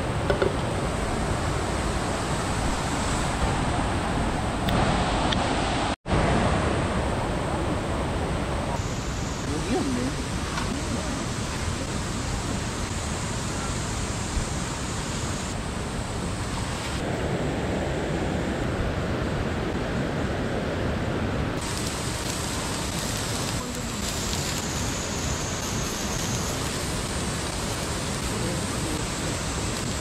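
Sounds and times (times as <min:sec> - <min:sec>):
mountain stream rushing: 0:00.0 - 0:30.0.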